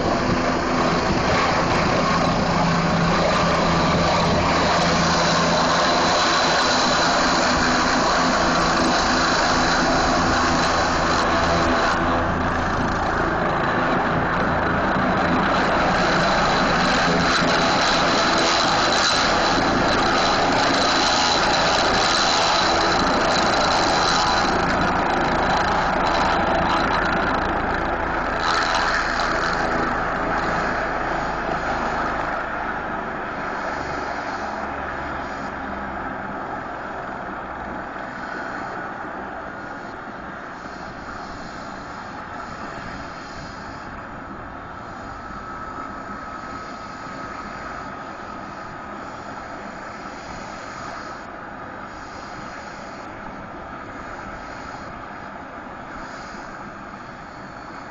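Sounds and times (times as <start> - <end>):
helicopter rotor chop: 0.0 - 57.9
high turbine whine: 0.0 - 57.9.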